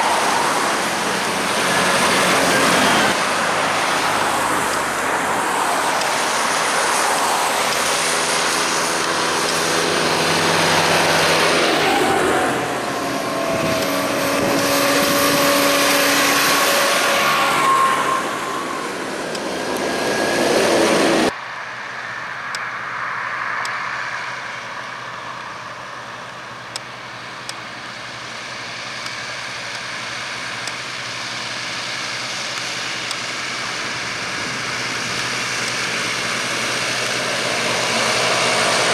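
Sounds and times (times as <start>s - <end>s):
vehicles passing close: 0.0s - 38.9s
vintage tractors approaching: 0.0s - 38.9s.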